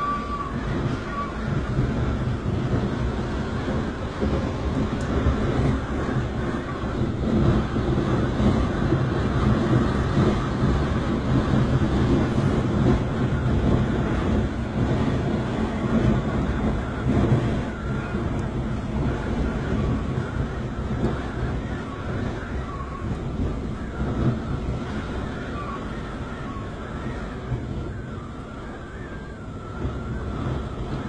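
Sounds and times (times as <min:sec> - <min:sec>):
wind and rain through windows: 0:00.0 - 0:31.0.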